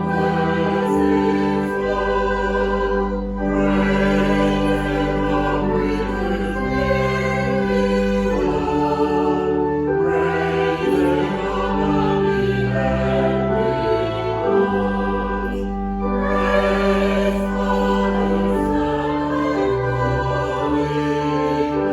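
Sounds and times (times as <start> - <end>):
choral music with sustained chords: 0.0 - 21.9.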